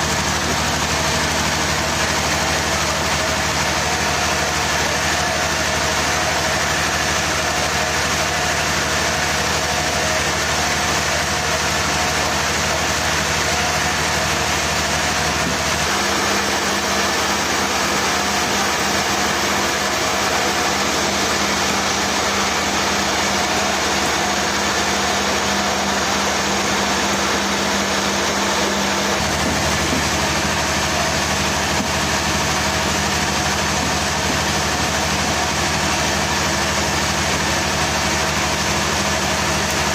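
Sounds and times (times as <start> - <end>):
machinery engine running: 0.0 - 39.9.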